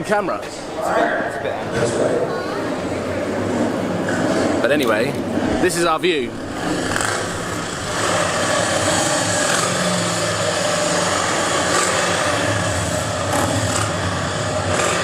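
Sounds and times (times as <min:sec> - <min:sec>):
outdoor background noise: 0:00.0 - 0:15.0
vehicle engines humming: 0:00.0 - 0:15.0.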